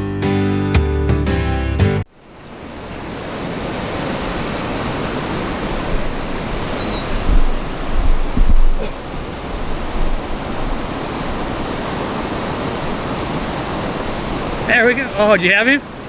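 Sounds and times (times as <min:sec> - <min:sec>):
wind buffeting microphone: 0:02.2 - 0:16.0.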